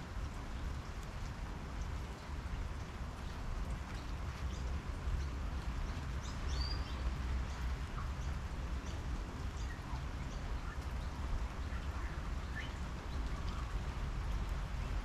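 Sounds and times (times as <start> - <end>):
rain pattering on table and leaves: 0.0 - 15.0.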